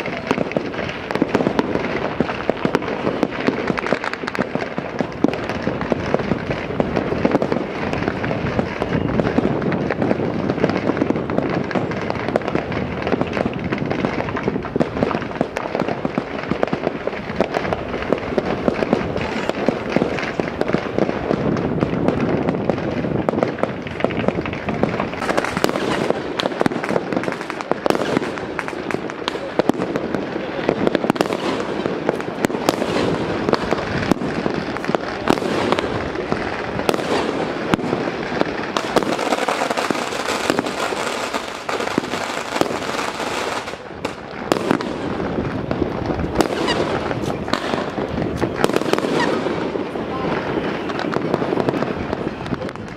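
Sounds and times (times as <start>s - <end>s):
fireworks and firecrackers crackling: 0.0s - 52.9s.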